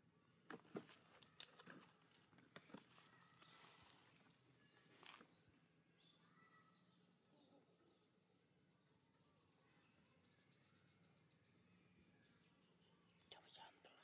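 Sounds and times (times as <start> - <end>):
bird chirping: 2.4 - 14.0.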